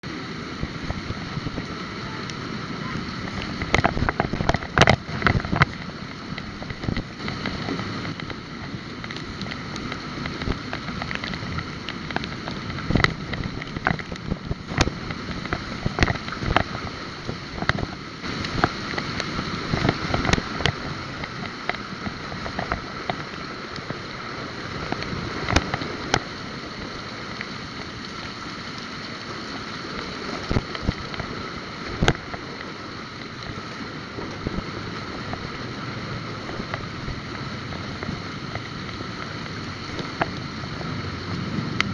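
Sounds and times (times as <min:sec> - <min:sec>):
wind and road noise: 0:00.0 - 0:41.9.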